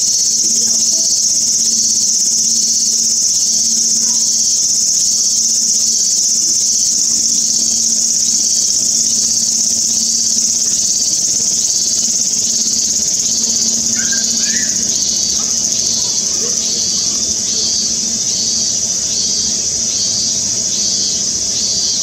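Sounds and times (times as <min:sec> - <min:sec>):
high-pitched insect chorus: 0:00.0 - 0:22.0
insect calling in pulses: 0:00.0 - 0:22.0.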